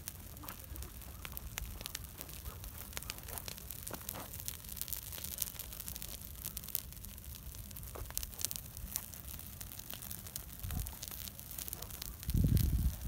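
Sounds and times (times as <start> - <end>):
fire low rumble: 0.0 - 13.0
grass fire crackling and popping: 0.0 - 13.0.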